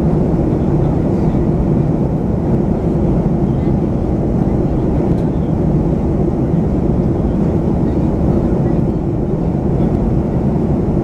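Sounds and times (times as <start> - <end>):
jet engines in flight: 0.0 - 11.0.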